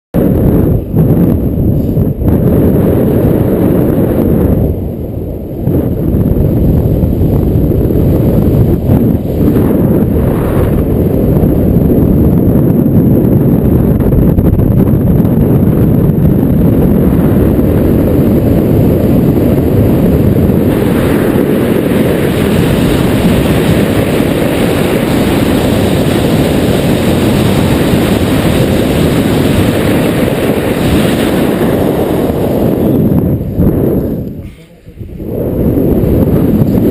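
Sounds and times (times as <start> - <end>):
wind buffeting microphone: 0.1 - 36.9.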